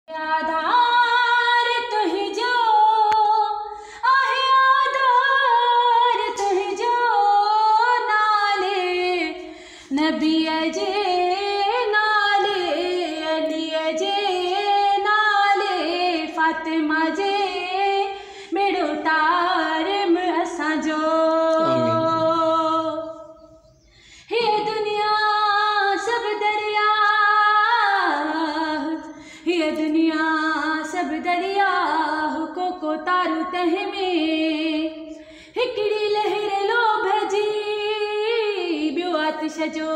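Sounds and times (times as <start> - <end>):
woman singing unaccompanied: 0.1 - 23.4, 24.2 - 39.9.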